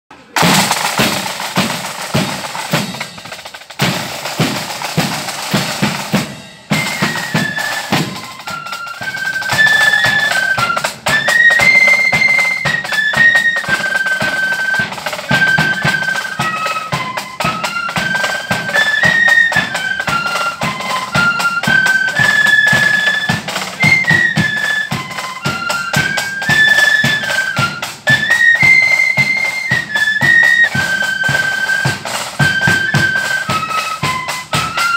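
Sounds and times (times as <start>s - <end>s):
flutes playing a tune: 0.2s - 34.9s
snare and bass drums beating: 0.3s - 34.9s.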